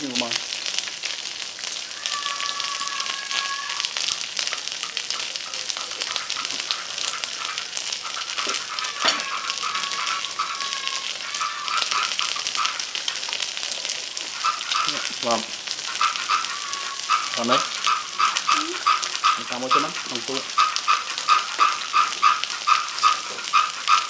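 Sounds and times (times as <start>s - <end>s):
food sizzling on grill pan: 0.0s - 24.0s.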